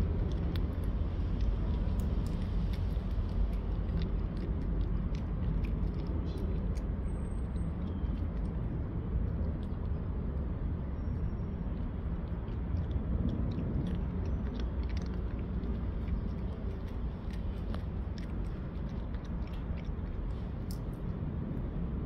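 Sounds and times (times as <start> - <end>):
cat crunching dry kibble: 0.0 - 21.2
steady low rumble: 0.0 - 22.0.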